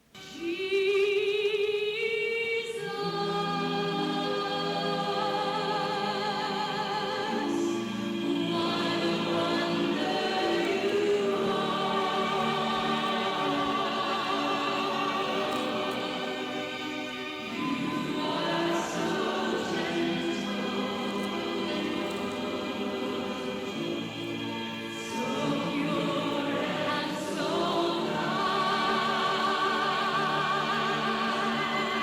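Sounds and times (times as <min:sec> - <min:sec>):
choir singing a slow hymn: 0:00.2 - 0:32.0.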